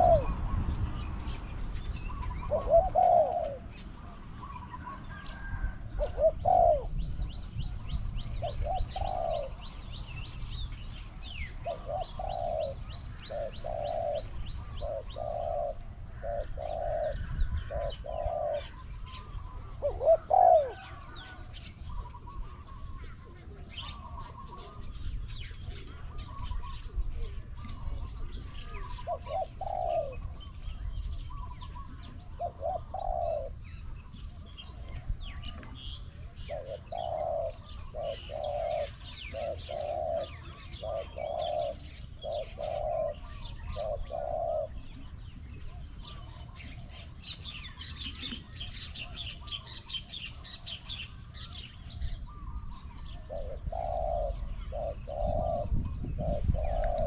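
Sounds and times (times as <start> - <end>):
dove cooing: 0.0 - 57.0
small birds chirping: 0.0 - 57.0.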